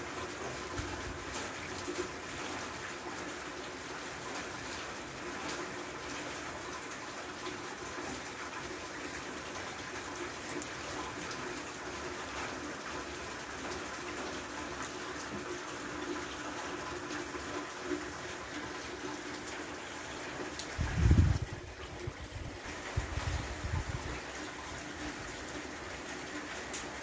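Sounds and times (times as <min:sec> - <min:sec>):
rain pattering into water: 0:00.0 - 0:27.0.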